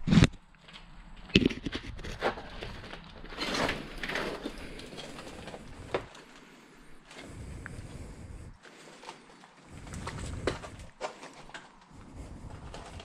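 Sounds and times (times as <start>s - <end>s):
debris rustling and scraping: 0.0s - 13.0s
footsteps on scrap wood and rubble: 0.2s - 8.0s, 8.6s - 13.0s.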